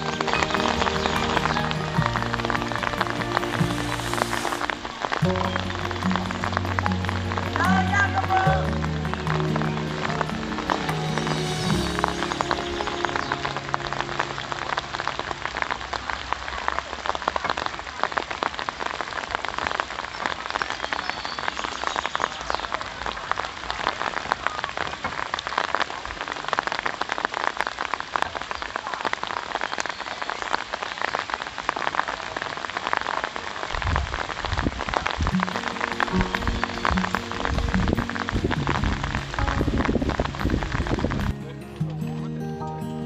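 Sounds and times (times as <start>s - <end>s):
steady rain pattering: 0.0s - 42.4s.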